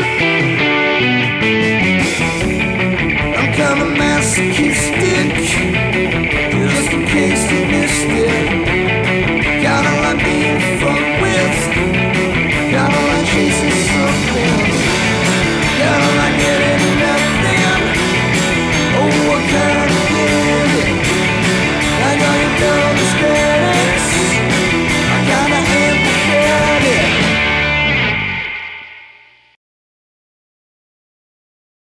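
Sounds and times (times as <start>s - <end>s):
rock song with drums and guitar: 0.0s - 29.5s.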